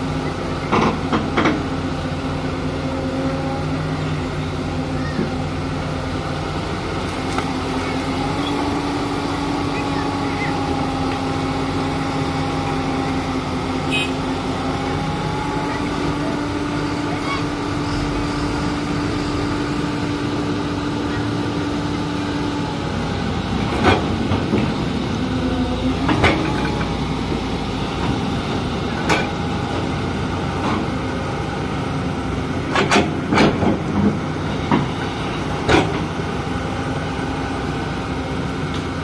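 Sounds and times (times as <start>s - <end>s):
excavator engine and hydraulics: 0.0s - 39.0s.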